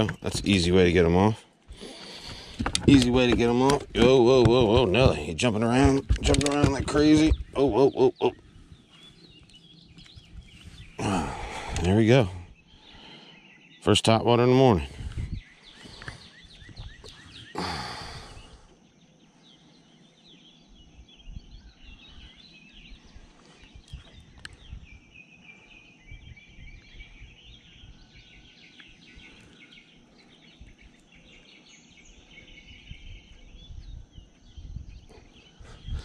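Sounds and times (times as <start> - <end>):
small birds singing and chirping: 0.0 - 36.0.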